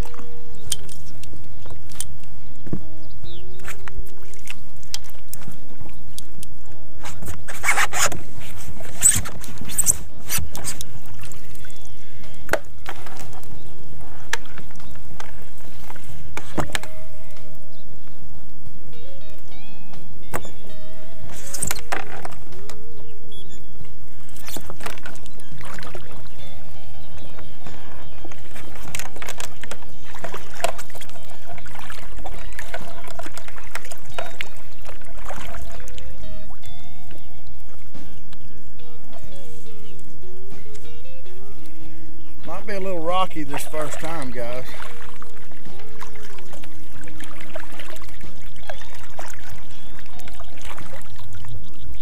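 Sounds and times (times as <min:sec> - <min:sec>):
kayak paddle splashing water: 0:00.0 - 0:17.4, 0:21.2 - 0:22.9, 0:24.1 - 0:40.2, 0:42.7 - 0:52.0.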